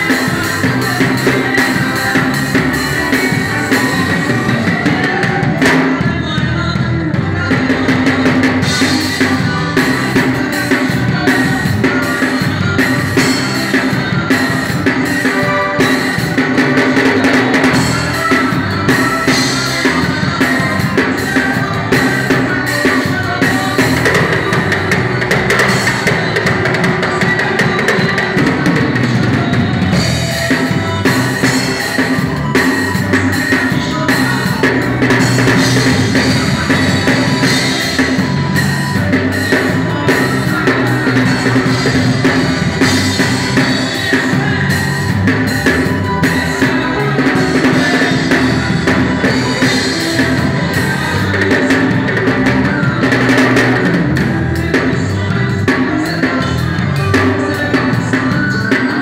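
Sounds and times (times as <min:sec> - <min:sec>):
drum kit fills: 0:00.0 - 0:59.0
live band music: 0:00.0 - 0:59.0.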